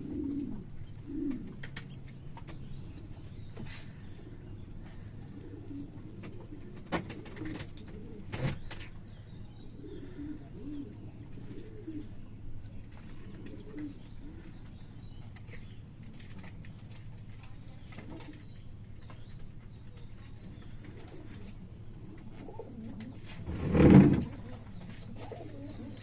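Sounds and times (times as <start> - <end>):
pigeons cooing: 0.0 - 16.7, 19.3 - 26.0.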